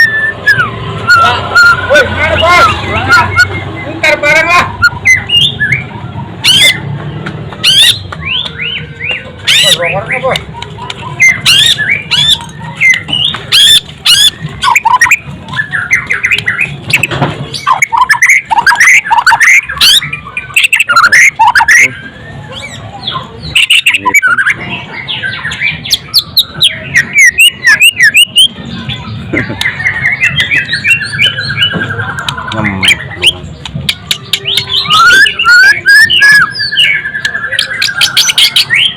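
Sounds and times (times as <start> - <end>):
bird singing loudly: 0.0 - 6.9, 7.6 - 38.9.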